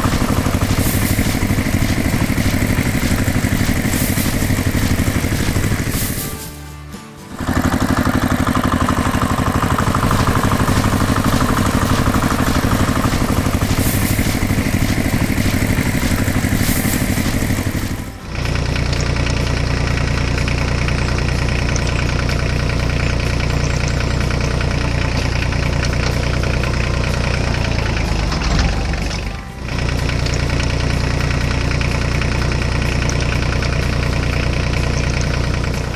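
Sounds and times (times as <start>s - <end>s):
deep low engine drone: 0.0s - 35.9s
heavy farm machine engine: 0.0s - 35.9s.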